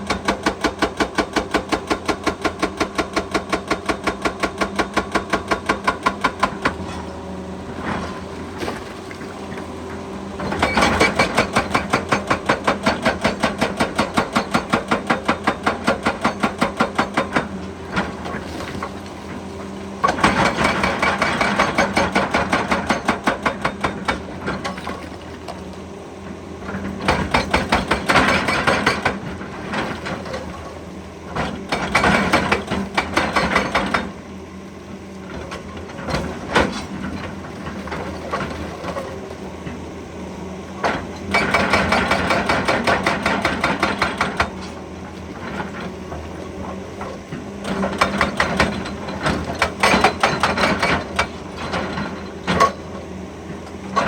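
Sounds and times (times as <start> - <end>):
hydraulic breaker hammering rock: 0.0 - 7.2, 7.8 - 34.3, 40.8 - 54.0
excavator engine running: 0.0 - 54.0.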